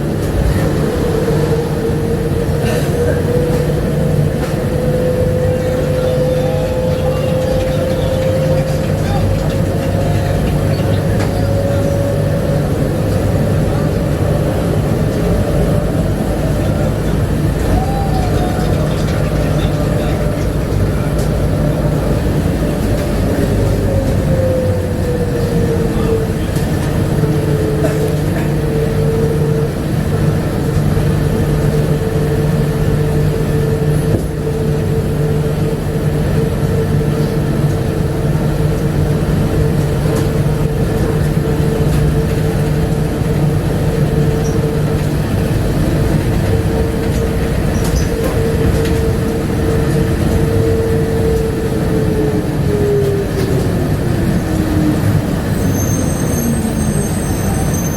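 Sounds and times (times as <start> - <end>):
people mover motor whine: 0.0 - 57.9.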